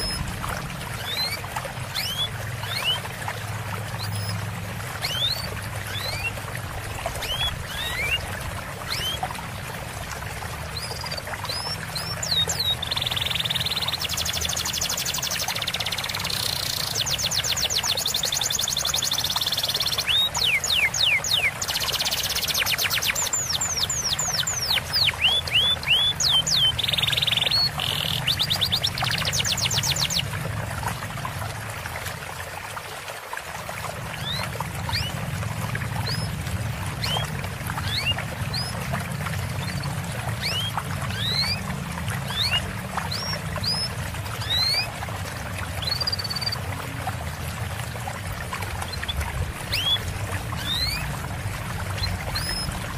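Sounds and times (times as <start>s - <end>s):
songbirds singing: 0.0s - 9.4s, 10.6s - 31.4s, 34.0s - 47.1s, 48.0s - 52.9s
running water trickling: 0.0s - 52.9s.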